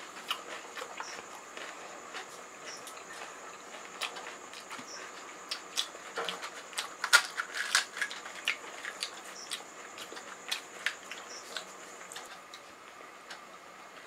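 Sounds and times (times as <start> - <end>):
crisp shells crackling and crunching: 0.0 - 12.4
faint steady hum: 0.0 - 14.0.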